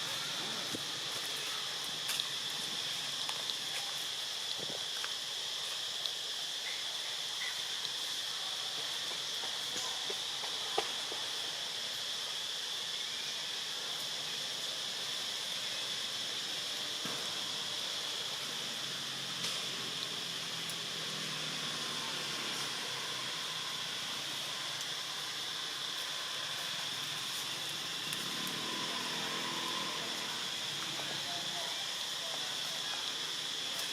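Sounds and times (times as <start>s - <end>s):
even hiss: 0.0s - 33.9s
insects droning: 0.0s - 33.9s.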